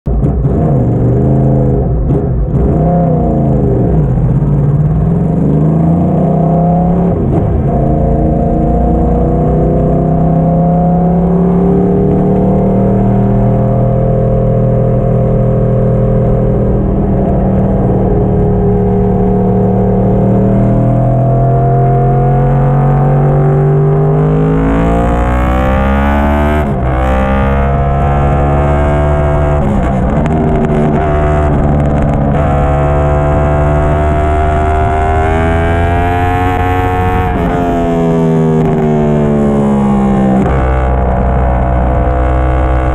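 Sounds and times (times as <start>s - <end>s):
motorcycle engine revving: 0.1s - 42.9s.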